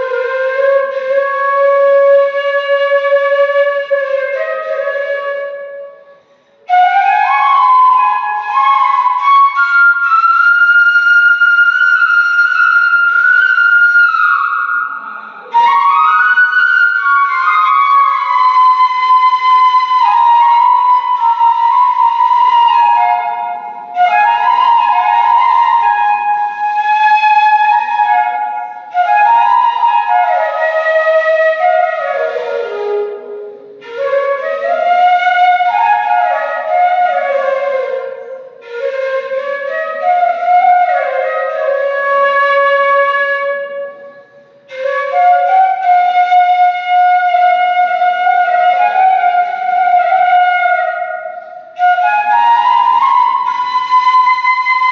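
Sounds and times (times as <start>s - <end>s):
solo flute melody: 0.0s - 54.9s.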